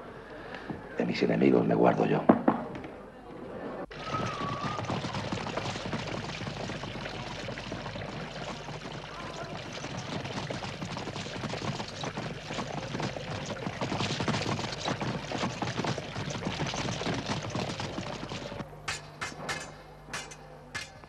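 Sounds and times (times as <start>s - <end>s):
fountain splashing: 3.9s - 20.9s
horse hooves clattering: 3.9s - 21.0s.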